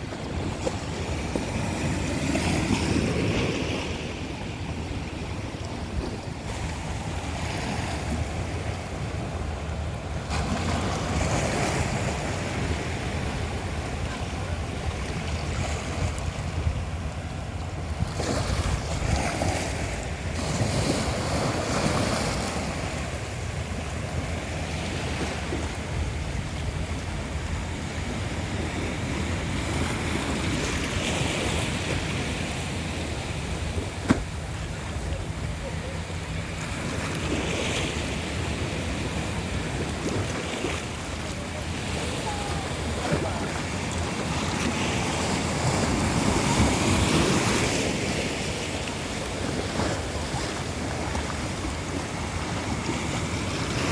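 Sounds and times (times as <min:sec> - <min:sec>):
sea waves washing ashore: 0:00.0 - 0:53.9
wind rumble on microphone: 0:00.0 - 0:53.9.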